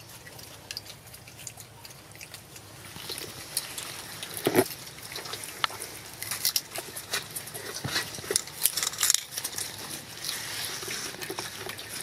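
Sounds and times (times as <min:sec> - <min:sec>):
monkeys chewing food: 0:00.0 - 0:12.0.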